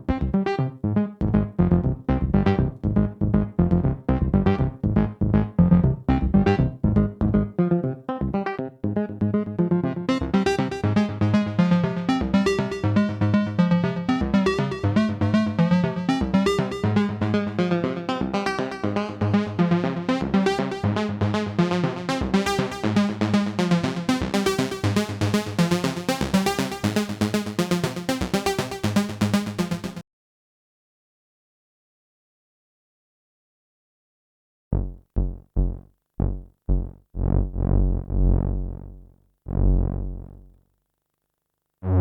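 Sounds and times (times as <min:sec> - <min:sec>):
synthesizer sequenced notes: 0:00.0 - 0:30.0, 0:34.8 - 0:40.5.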